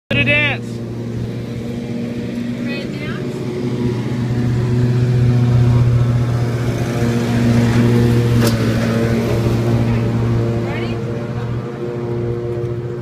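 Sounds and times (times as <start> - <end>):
engine droning steadily: 0.1 - 13.0.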